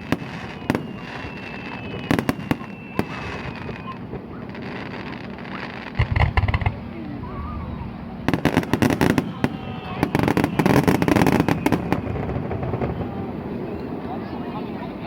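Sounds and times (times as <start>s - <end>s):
fireworks bursting: 0.0s - 14.2s.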